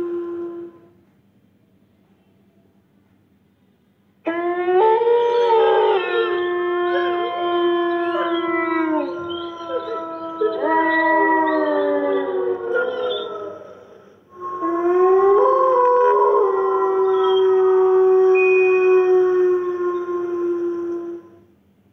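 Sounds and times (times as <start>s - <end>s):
wolves howling in chorus: 0.0s - 0.8s, 4.3s - 21.4s.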